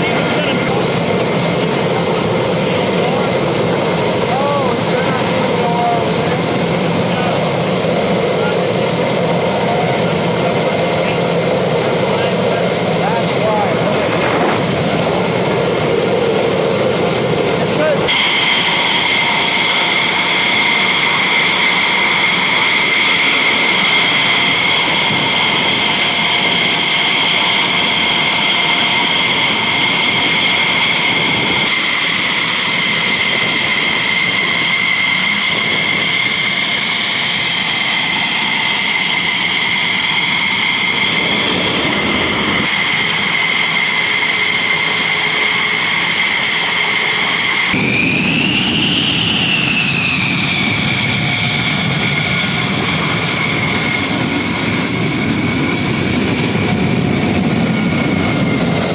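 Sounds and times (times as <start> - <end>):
jet engine turbine whine: 0.0 - 58.9.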